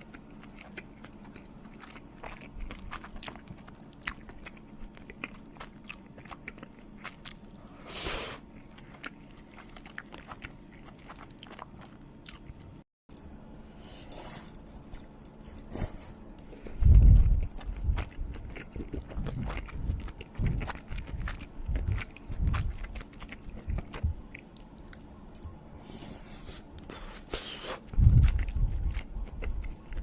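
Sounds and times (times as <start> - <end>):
person chewing crunchy food: 0.0 - 12.8, 14.8 - 25.1, 25.9 - 30.0.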